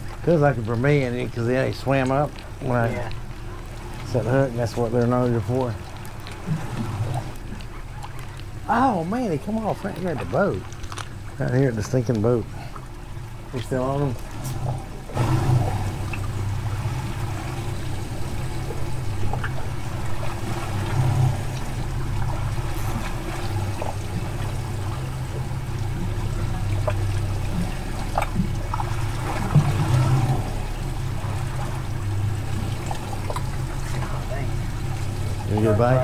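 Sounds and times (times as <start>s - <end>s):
steady low hum: 0.0s - 36.0s
water trickling and sloshing: 0.0s - 36.0s.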